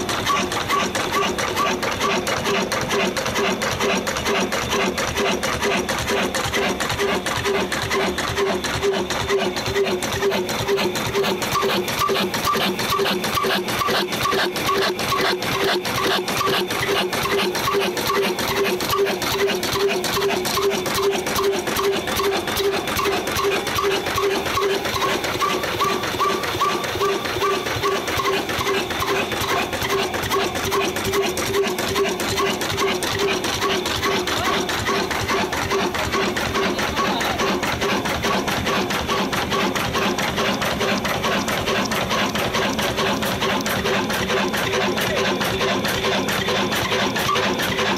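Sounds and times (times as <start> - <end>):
diesel engine clattering: 0.0 - 47.9.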